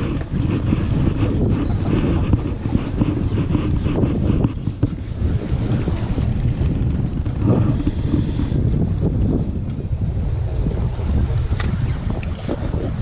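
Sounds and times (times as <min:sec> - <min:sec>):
water and waves: 0:00.0 - 0:13.0
wind buffeting microphone: 0:00.0 - 0:13.0.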